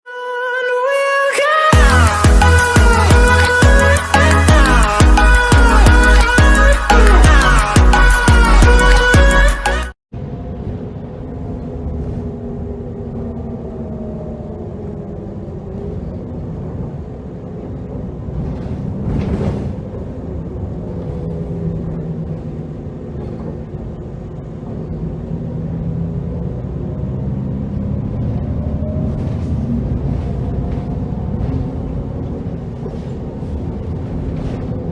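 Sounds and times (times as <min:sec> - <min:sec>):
bus engine running: 0:01.8 - 0:34.9.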